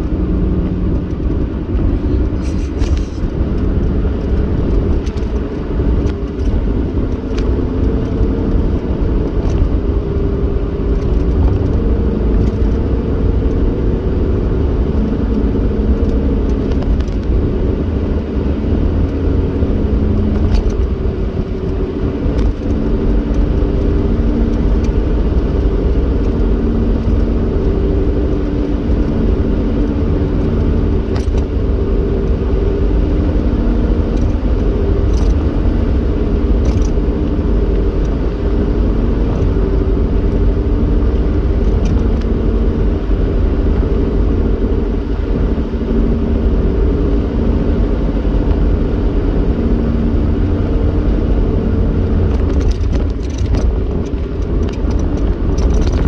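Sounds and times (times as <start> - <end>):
car tyre and engine rumble: 0.0 - 56.0.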